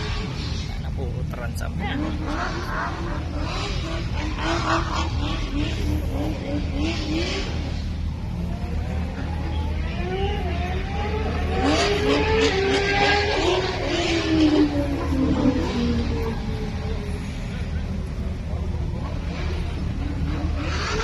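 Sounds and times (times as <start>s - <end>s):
car engine revving: 0.0s - 21.0s
low rumble of running engines: 0.0s - 21.0s.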